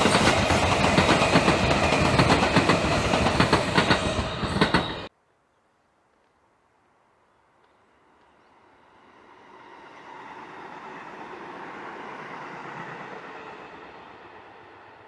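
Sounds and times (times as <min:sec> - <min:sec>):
electric train passing: 0:00.0 - 0:05.1, 0:07.9 - 0:15.0.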